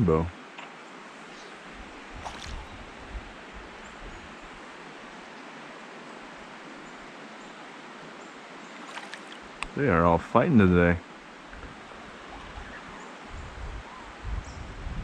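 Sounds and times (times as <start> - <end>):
stream water running: 0.0 - 14.8.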